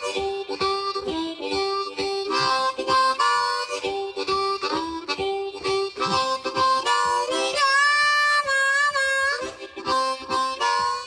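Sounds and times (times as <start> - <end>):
blues harmonica riff: 0.0 - 11.0.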